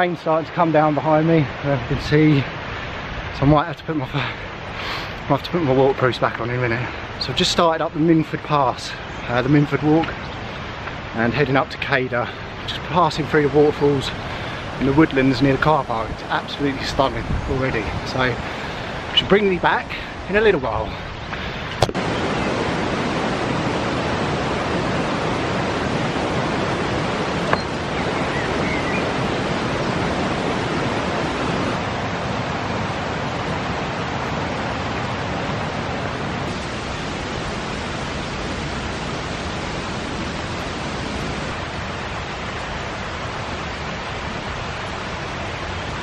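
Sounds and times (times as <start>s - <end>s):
waterfall roar: 0.0s - 46.0s.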